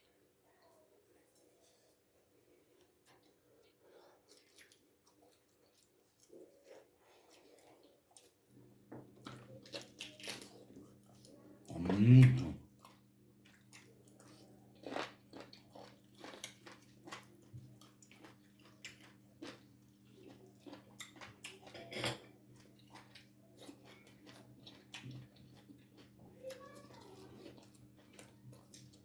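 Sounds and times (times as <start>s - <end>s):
chewing and gnawing bones: 2.7s - 29.0s.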